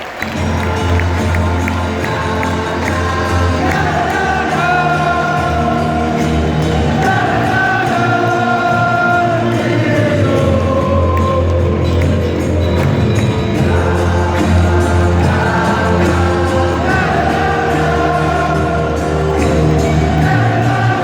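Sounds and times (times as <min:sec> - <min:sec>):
crowd chanting: 0:00.0 - 0:21.0.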